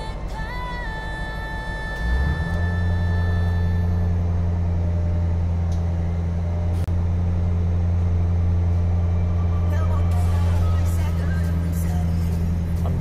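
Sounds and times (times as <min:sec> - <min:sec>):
diesel railcar engine rumble: 0:00.0 - 0:13.0.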